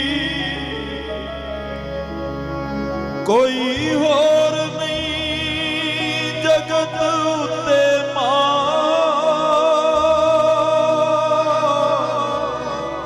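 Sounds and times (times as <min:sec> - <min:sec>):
man singing with vibrato: 0:00.0 - 0:01.8, 0:03.2 - 0:13.0
instrumental backing: 0:00.0 - 0:13.0.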